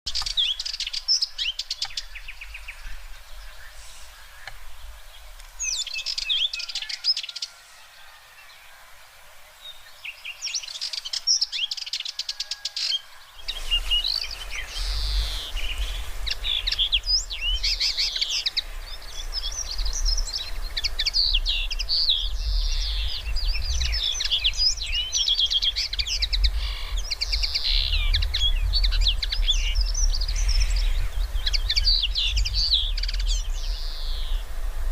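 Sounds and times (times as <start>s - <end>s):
birds singing and chirping: 0.1s - 34.9s.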